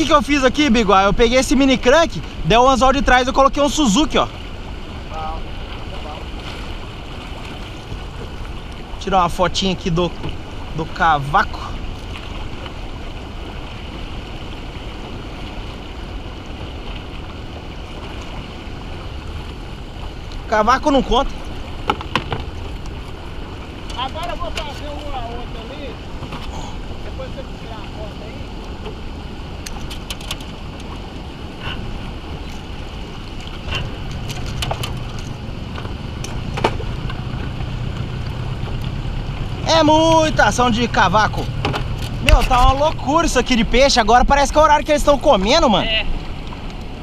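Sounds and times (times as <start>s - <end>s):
river water rushing: 0.0s - 47.0s
wind on microphone: 0.0s - 47.0s.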